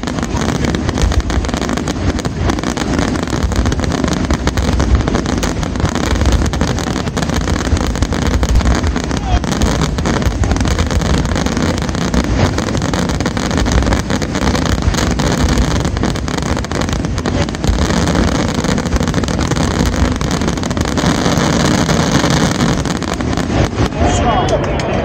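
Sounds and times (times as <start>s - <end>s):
fireworks barrage rumble: 0.0s - 25.0s.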